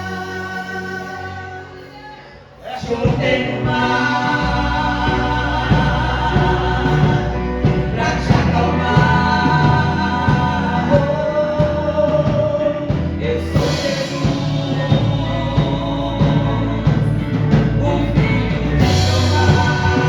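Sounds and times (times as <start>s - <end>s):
gospel singing: 0.0s - 20.0s
band with drums: 2.8s - 20.0s.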